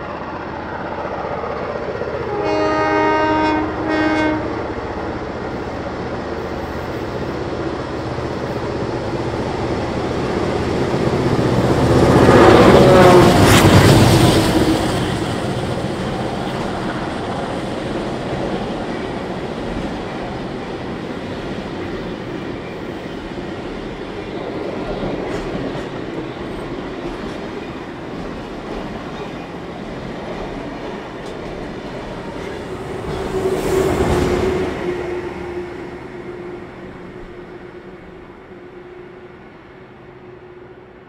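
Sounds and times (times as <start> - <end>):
diesel locomotive engine hum: 0.0 - 41.0
train wheels rumbling on rail: 0.0 - 41.0.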